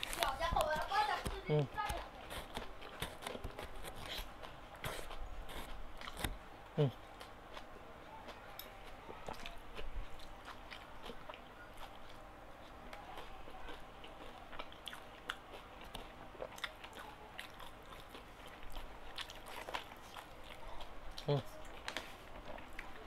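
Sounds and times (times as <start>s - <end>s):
person chewing food: 0.0s - 23.0s.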